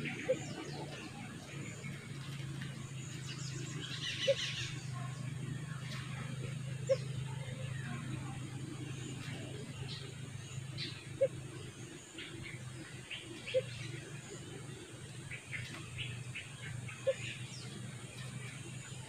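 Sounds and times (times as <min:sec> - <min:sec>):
doves hooting: 0:00.0 - 0:19.0
small birds chirping: 0:00.0 - 0:19.0
steady low hum: 0:00.0 - 0:19.0.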